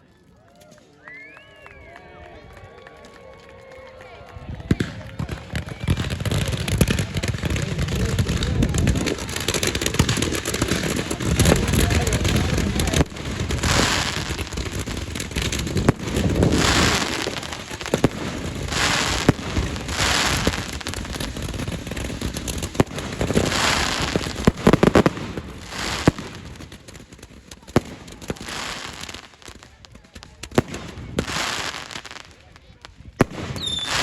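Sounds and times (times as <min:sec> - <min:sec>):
fireworks cracks and crackling: 0:04.4 - 0:34.0
fireworks rushing bursts: 0:04.4 - 0:34.0.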